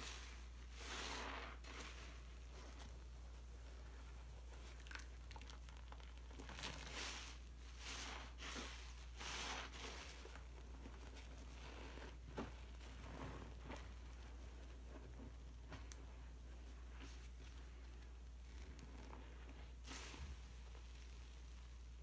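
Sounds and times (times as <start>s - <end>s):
sponges squishing in foam: 0.0s - 22.0s.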